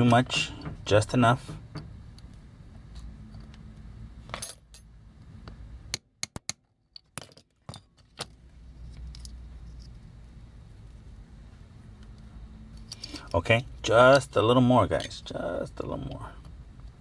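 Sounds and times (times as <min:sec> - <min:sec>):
low steady hum: 0:00.0 - 0:06.1, 0:06.7 - 0:17.0.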